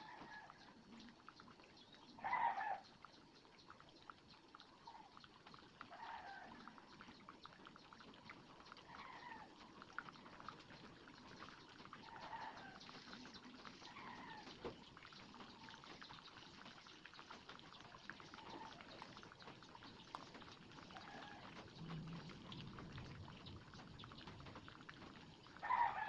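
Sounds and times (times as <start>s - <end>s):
faint animal calls: 0.0s - 15.9s, 17.2s - 24.6s, 25.5s - 26.0s
eggs sizzling in a pan: 0.0s - 26.0s.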